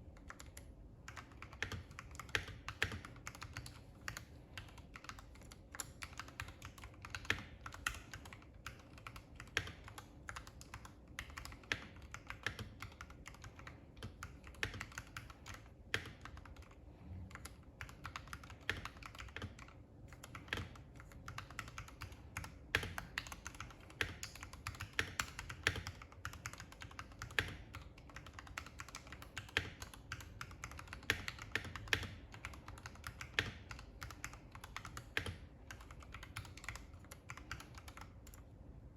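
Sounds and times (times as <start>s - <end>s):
mechanical keyboard typing: 0.1s - 38.5s.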